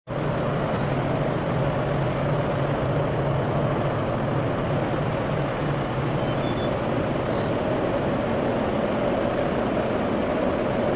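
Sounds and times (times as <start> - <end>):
distant diesel locomotive drone: 0.1 - 10.9.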